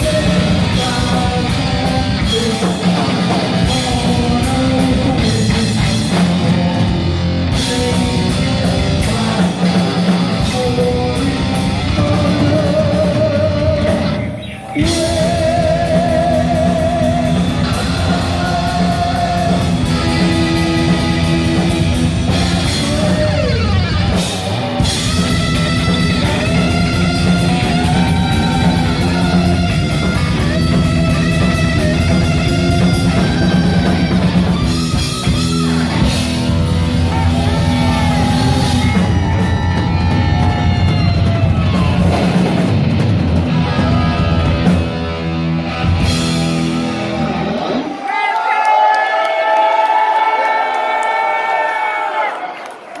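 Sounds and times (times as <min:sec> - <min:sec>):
heavy metal band playing live: 0:00.0 - 0:48.3.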